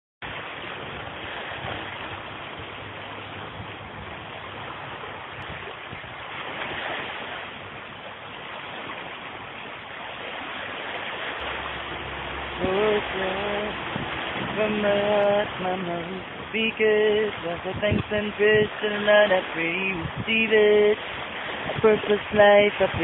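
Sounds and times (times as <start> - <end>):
running water rushing: 0.2 - 23.0.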